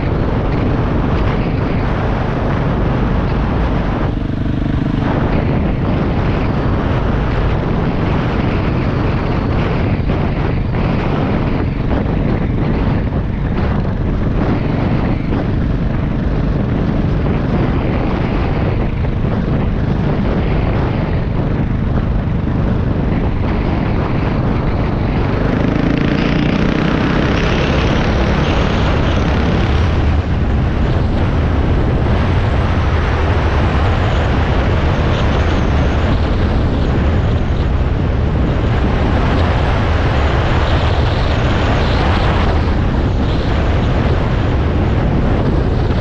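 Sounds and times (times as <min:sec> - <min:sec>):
dirt bike engine running: 0:00.0 - 0:46.0
wind noise on microphone: 0:00.0 - 0:46.0.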